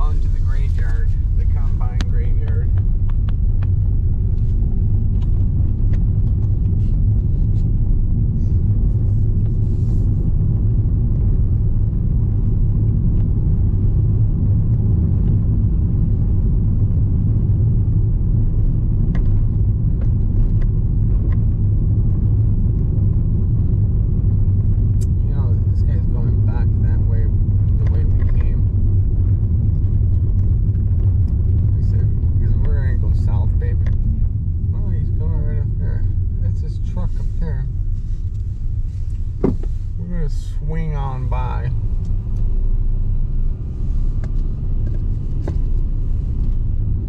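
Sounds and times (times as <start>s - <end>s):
car engine and tyres rumbling: 0.0s - 47.0s.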